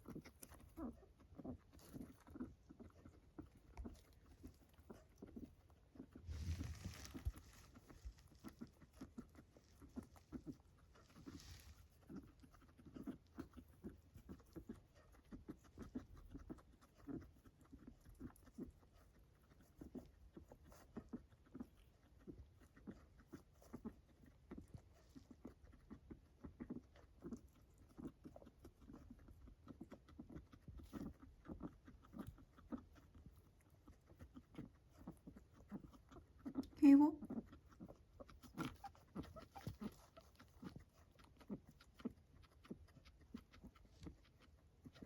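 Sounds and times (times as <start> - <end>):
guinea pig labored breathing: 0.0 - 45.0.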